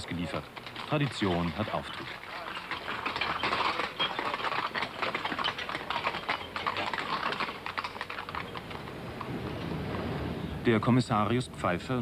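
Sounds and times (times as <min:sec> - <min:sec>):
horse hooves and wagon clattering: 0:00.0 - 0:12.0.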